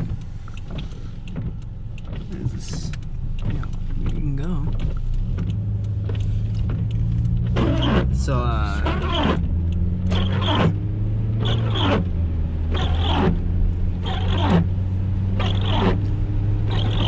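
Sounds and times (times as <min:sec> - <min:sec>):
car engine and road hum: 0:00.0 - 0:17.0
windshield wipers squeaking: 0:00.0 - 0:17.0.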